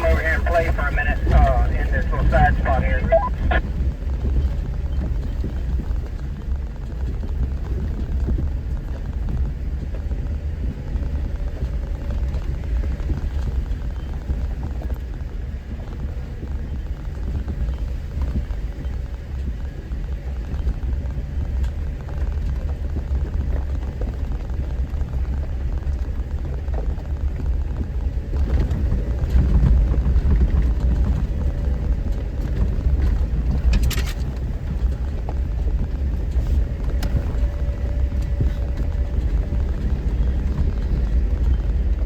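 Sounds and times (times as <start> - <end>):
off-road vehicle engine rumbling: 0.0 - 42.0.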